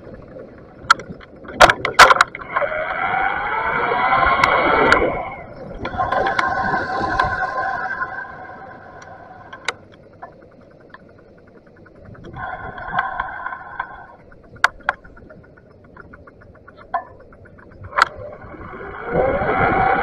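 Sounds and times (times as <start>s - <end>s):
electric bike motor whining: 2.0s - 20.0s
bicycle freewheel ticking: 2.2s - 20.0s.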